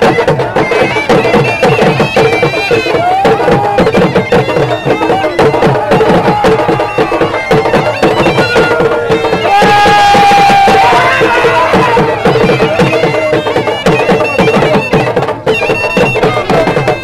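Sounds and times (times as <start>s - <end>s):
drum beating fast rhythm: 0.0s - 17.0s
shrill reed pipe melody: 0.0s - 17.0s.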